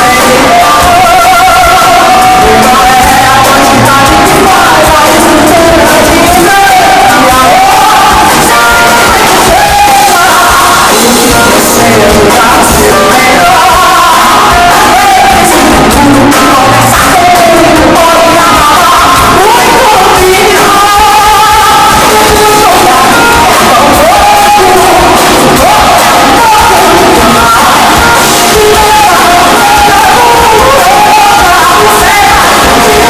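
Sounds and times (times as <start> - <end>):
drums: 0.0 - 33.0
woman singing into microphone: 0.0 - 33.0.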